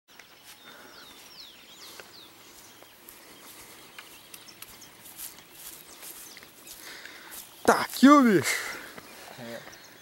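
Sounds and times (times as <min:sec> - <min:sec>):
birds chirping: 0:00.1 - 0:10.0.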